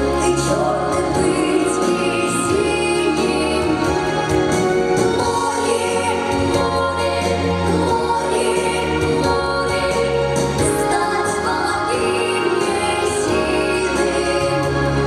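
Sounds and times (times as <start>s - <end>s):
children's group singing with band: 0.0s - 15.0s.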